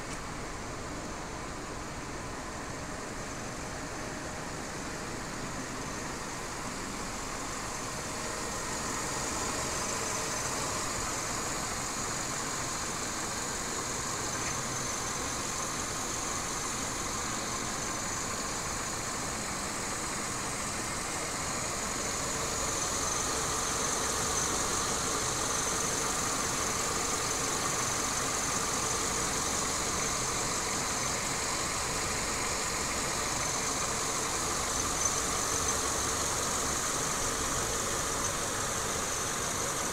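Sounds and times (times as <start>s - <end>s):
car engine idling: 4.6s - 39.9s.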